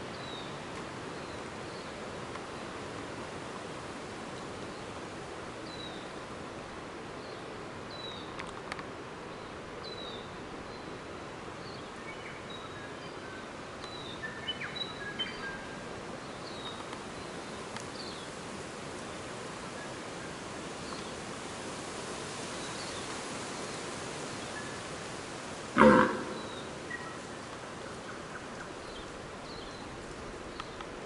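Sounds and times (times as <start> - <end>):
forest background hiss: 0.0 - 31.0.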